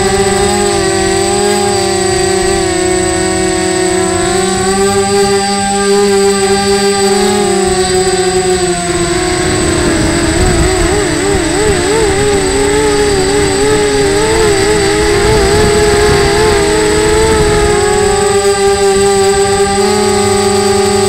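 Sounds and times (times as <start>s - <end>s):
drone propellers whining: 0.0s - 21.0s
wind rush on microphone: 0.0s - 21.0s.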